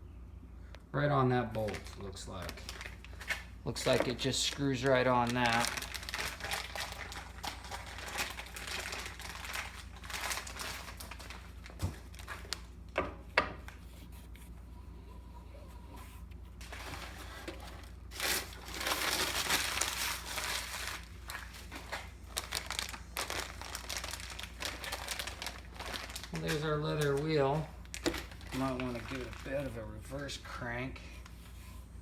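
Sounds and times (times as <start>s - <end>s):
packaging crinkling and rustling: 1.4s - 13.0s, 15.8s - 31.6s.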